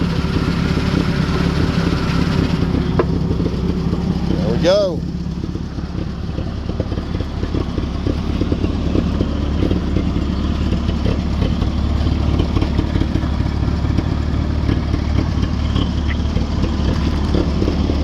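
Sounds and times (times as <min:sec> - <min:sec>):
forklift engine running: 0:00.0 - 0:18.0.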